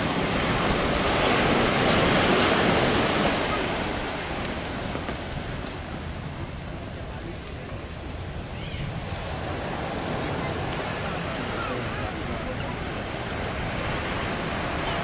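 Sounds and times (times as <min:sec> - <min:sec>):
surf breaking on shore: 0:00.0 - 0:15.0.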